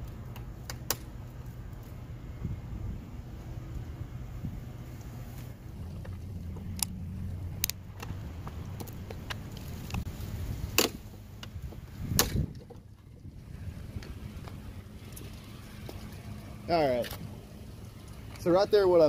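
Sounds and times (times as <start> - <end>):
wind rumble on microphone: 0.0 - 18.3.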